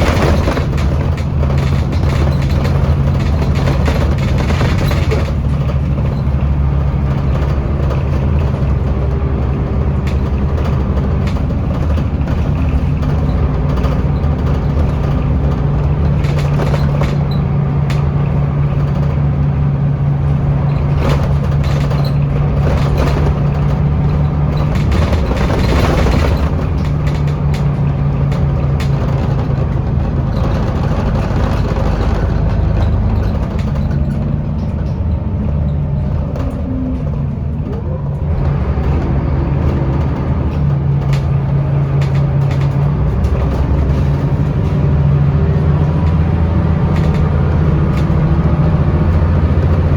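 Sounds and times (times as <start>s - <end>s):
bus engine drone: 0.0s - 49.9s
clicks and rattles: 0.0s - 49.9s.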